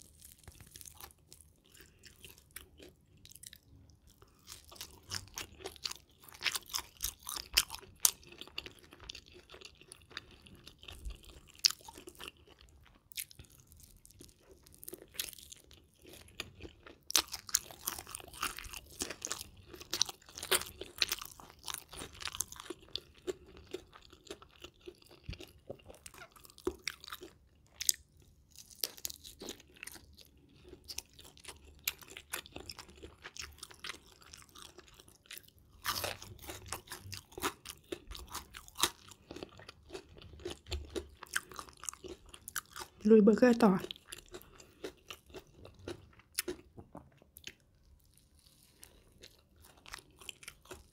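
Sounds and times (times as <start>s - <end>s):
crunching and chewing fried chicken: 0.0s - 50.9s.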